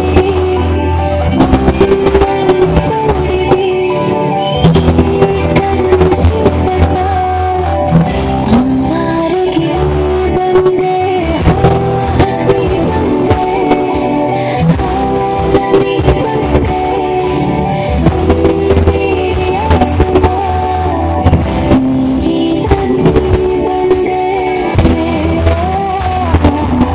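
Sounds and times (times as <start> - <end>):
dance music with held notes: 0.0 - 26.9.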